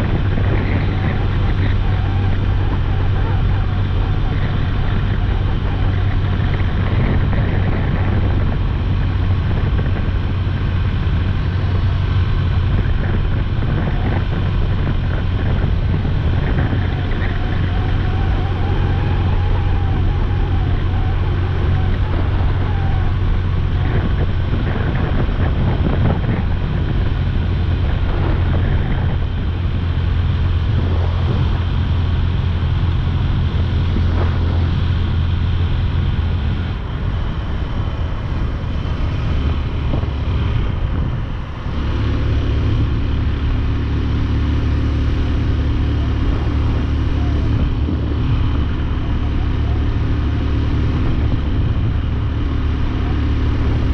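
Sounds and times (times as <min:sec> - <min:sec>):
motorcycle engine running: 0:00.0 - 0:53.9
wind noise on microphone: 0:00.0 - 0:53.9.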